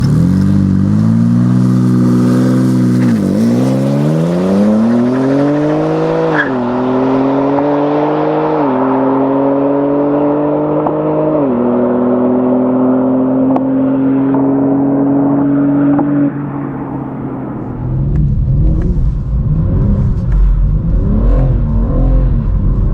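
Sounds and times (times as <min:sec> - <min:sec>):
car engine accelerating hard: 0:00.0 - 0:22.9.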